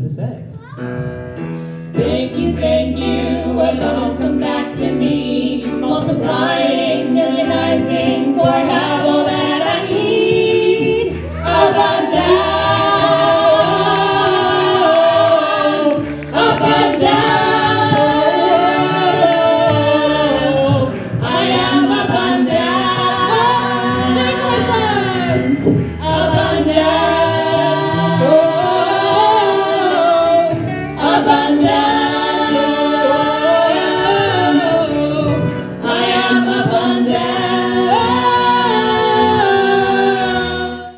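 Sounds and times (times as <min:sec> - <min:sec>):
choir singing unaccompanied: 0:02.0 - 0:40.9.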